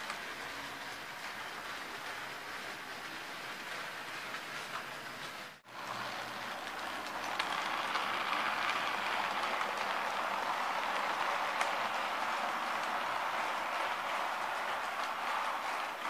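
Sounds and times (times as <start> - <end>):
model train wheels rushing on rails: 0.0 - 16.0.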